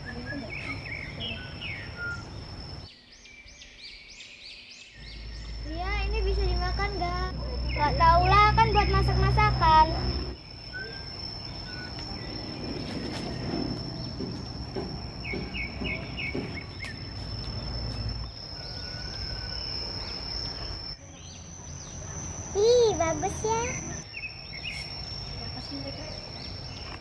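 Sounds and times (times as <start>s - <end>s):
insect chirps: 0.0s - 27.0s
insects trilling: 0.0s - 27.0s.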